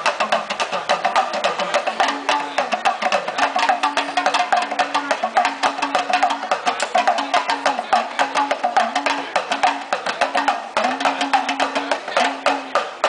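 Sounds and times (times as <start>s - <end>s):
talking drum played fast: 0.0s - 13.0s.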